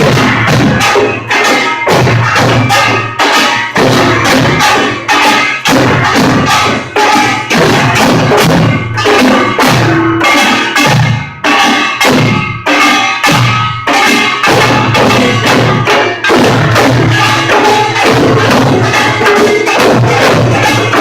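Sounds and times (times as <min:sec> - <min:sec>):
percussion band gongs and drums: 0:00.0 - 0:21.0.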